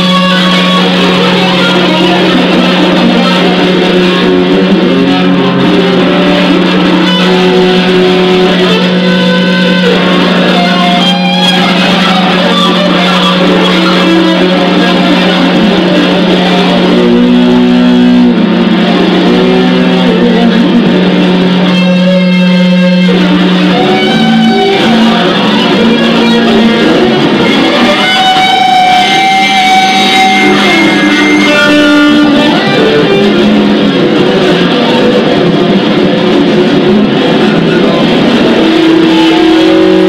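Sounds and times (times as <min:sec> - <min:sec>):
low drone: 0:00.0 - 0:40.0
noise music on guitar and bass: 0:00.0 - 0:40.0.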